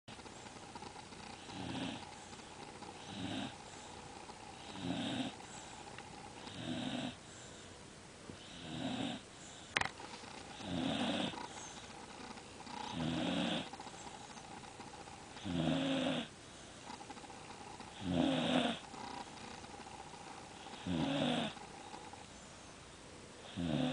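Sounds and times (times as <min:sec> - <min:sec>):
dog snoring: 0:00.1 - 0:07.2, 0:08.4 - 0:09.2, 0:09.8 - 0:22.3, 0:23.4 - 0:23.9.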